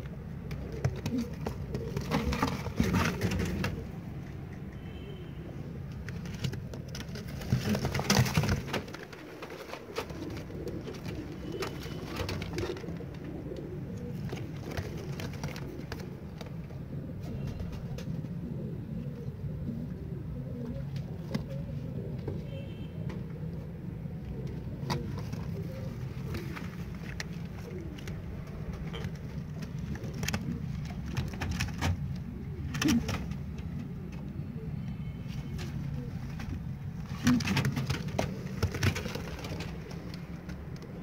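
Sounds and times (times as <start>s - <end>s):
pigeons cooing: 0.0s - 41.0s.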